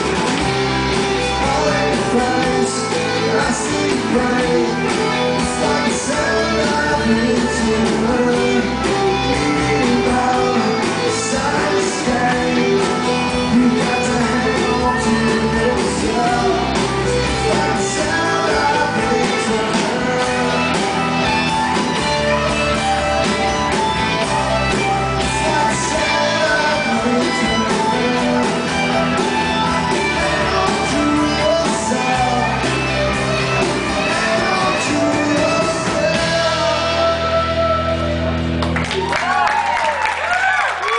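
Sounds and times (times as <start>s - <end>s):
person singing: 0.0s - 38.4s
rock band playing live: 0.0s - 40.9s.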